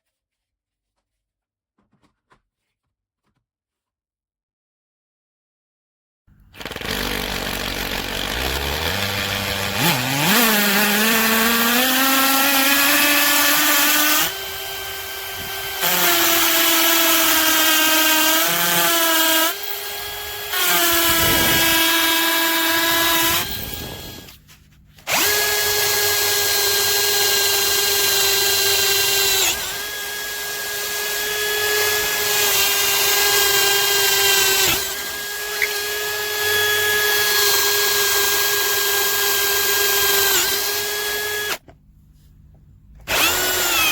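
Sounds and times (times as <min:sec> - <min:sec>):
cordless drill motor whining: 0:06.4 - 0:41.8, 0:43.0 - 0:43.9.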